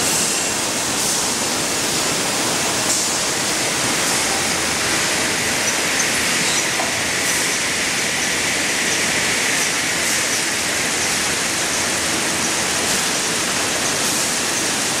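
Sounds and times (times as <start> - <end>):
factory machines rushing din: 0.0 - 15.0.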